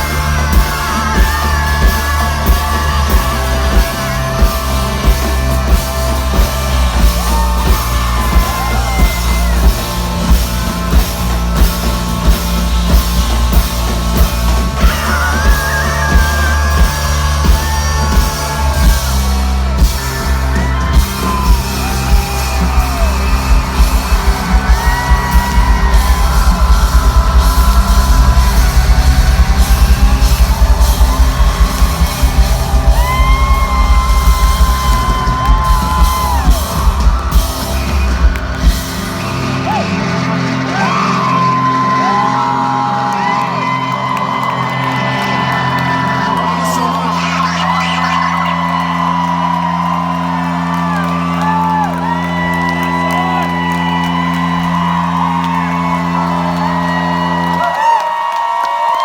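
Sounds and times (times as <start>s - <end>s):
live rock band playing: 0.0s - 57.6s
pounding drums and bass: 0.0s - 57.8s
crowd yelling and whooping: 0.0s - 59.0s.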